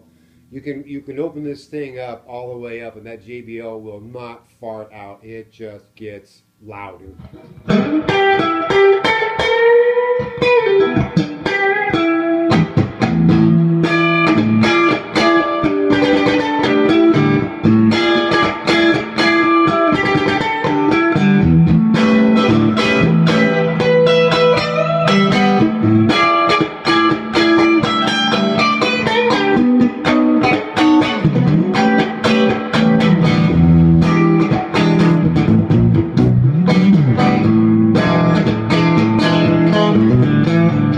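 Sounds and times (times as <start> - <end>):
electric guitar through tube amp: 6.7 - 40.9.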